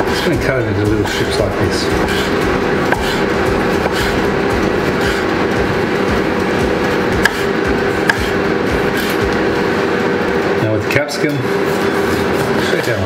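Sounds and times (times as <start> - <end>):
air fryer fan humming: 0.0 - 13.0.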